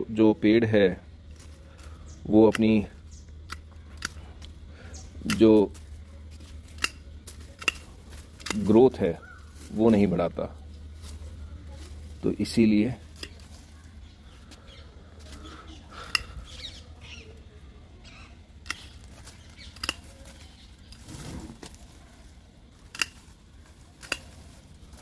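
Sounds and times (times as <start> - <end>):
pruning shears snipping stems: 1.3 - 13.9, 15.2 - 16.6, 18.6 - 25.0.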